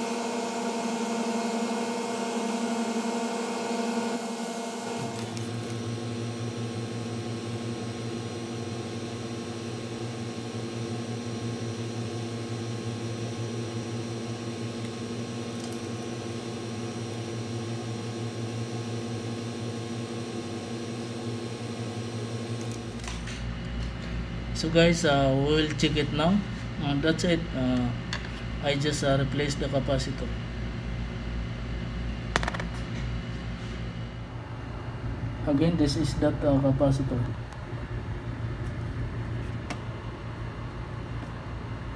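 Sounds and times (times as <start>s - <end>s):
machine fan humming: 0.0s - 41.9s.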